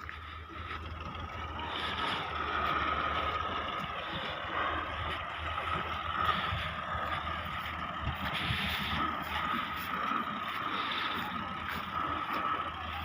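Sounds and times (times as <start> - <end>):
heavy machinery engines droning: 0.0 - 13.0.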